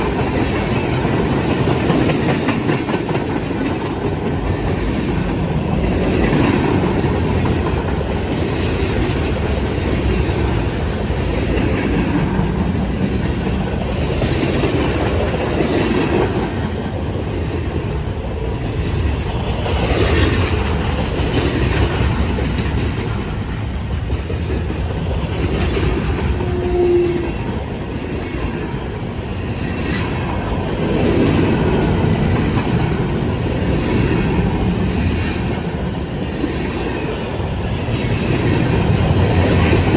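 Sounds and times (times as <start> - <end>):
freight train rumbling: 0.0 - 39.9
wheels clacking over rail joints: 0.0 - 39.9.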